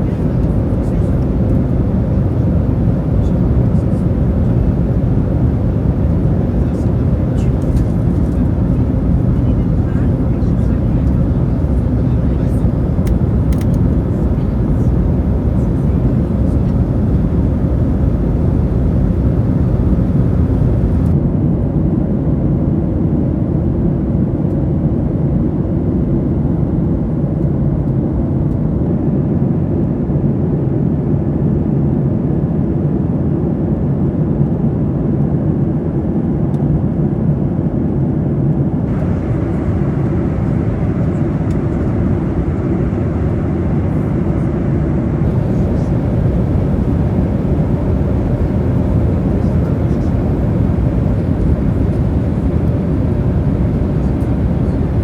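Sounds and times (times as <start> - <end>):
airliner engines rumbling: 0.0 - 55.0.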